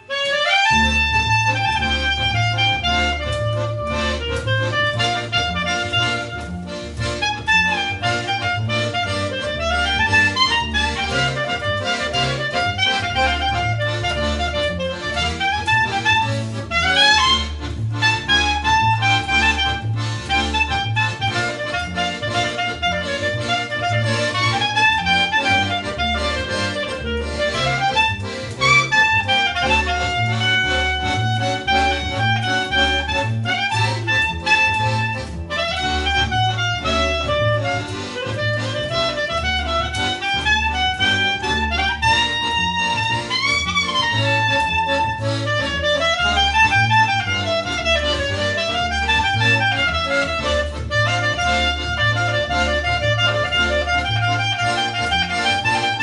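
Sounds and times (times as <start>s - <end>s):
accordion melody: 0.0s - 56.0s.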